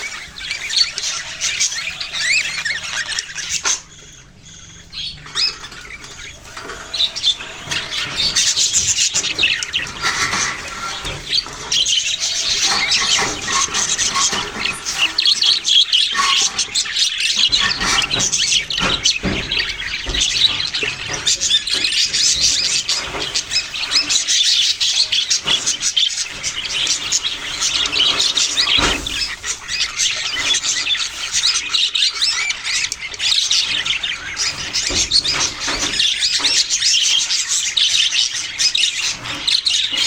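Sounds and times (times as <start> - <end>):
budgerigars chirping: 0.0 - 40.0.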